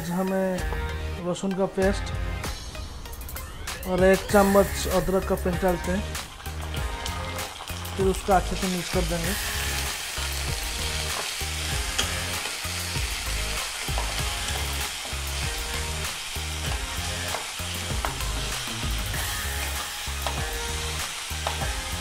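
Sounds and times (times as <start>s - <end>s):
onions sizzling in hot oil: 4.3s - 22.0s.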